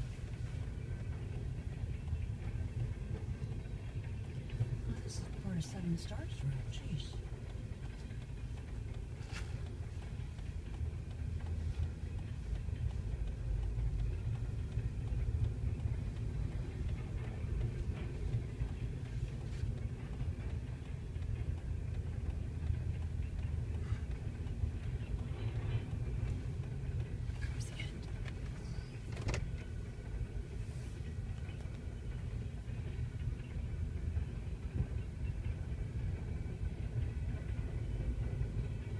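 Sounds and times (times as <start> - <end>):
wheels clicking on rails: 0.0 - 38.9.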